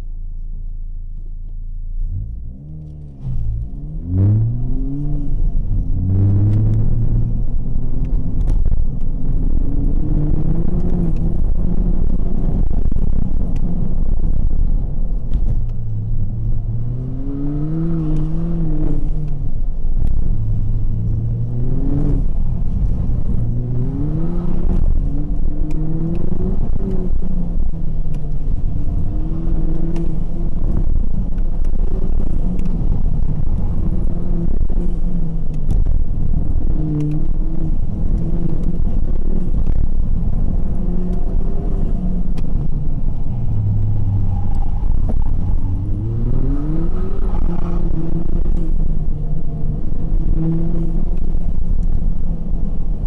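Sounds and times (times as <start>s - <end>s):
road and tyre rumble: 0.0s - 53.0s
car engine revving: 2.0s - 53.0s.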